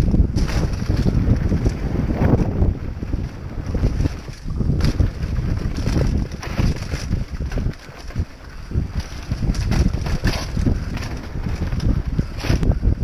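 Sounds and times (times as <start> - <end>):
bike knocks and rattles: 0.0 - 13.0
tyres rolling on dirt trail: 0.0 - 13.0
wind buffeting microphone: 0.0 - 13.0.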